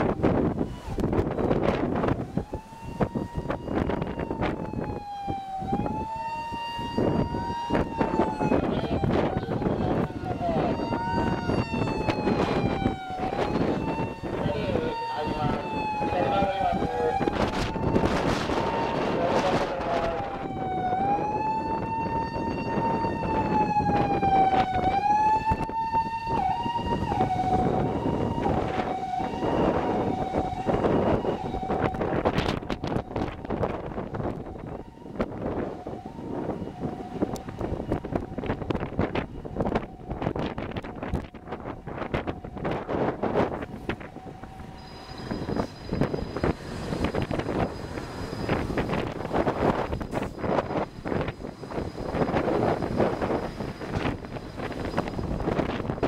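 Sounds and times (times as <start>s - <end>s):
ambulance siren: 0.0s - 56.0s
passing traffic: 0.0s - 56.0s.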